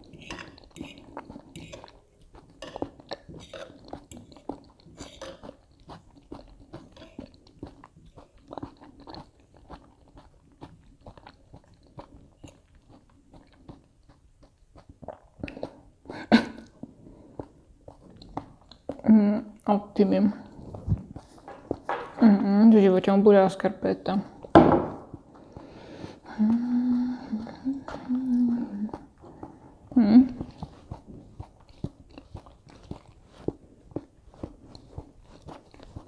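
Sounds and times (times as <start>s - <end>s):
person chewing crunchy food: 0.0s - 19.1s, 20.4s - 22.2s, 24.3s - 36.0s.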